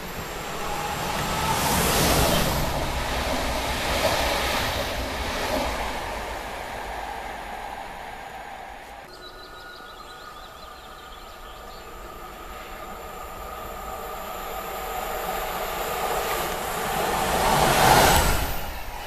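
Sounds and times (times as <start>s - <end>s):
electric locomotive passing: 0.0s - 19.0s
high whine of train: 0.0s - 19.0s.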